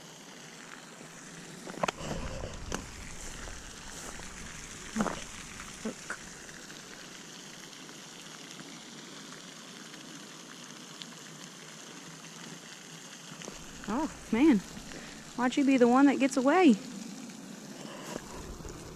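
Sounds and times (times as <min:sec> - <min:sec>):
fountain spray splashing: 0:00.0 - 0:18.9.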